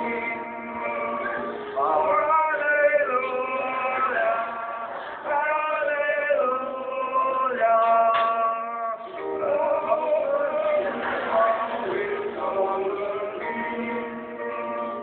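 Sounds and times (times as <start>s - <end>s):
congregation singing a hymn: 0.0s - 8.4s, 9.0s - 15.0s
man singing loudly: 0.0s - 15.0s.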